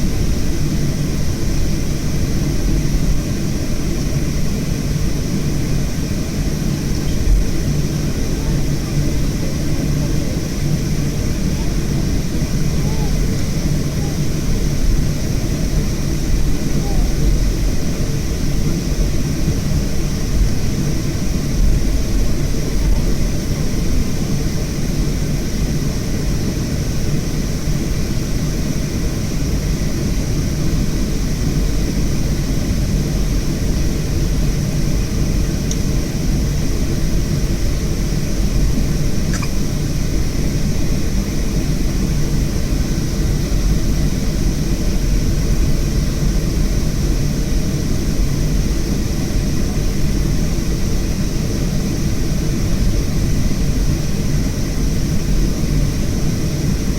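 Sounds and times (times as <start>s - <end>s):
jet engines running: 0.0s - 56.9s.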